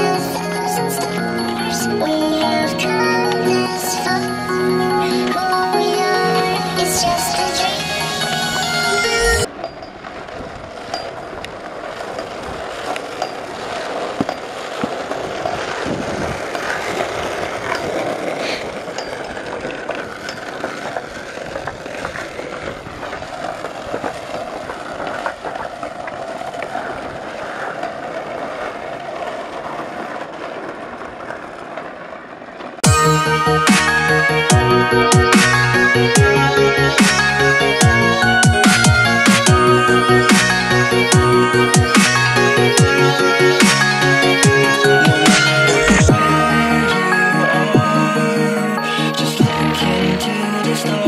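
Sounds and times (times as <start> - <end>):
wheels rolling on asphalt: 0.0 - 51.0.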